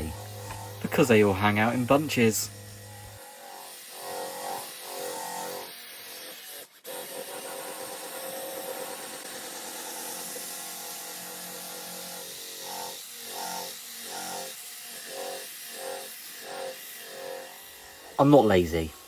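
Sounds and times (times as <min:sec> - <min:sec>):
electric drill polishing plastic: 0:00.0 - 0:19.0.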